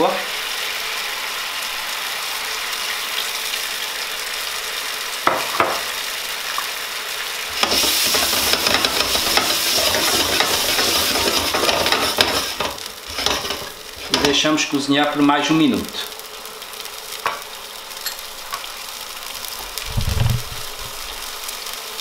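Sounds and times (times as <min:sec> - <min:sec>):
sauce sizzling in a frying pan: 0:00.0 - 0:22.0.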